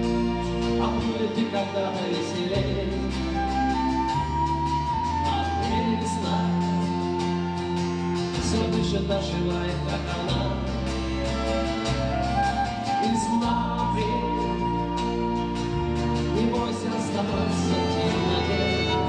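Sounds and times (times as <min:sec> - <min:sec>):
acoustic guitar: 0:00.0 - 0:19.0
bass guitar: 0:00.0 - 0:19.0
flute melody: 0:00.0 - 0:19.0.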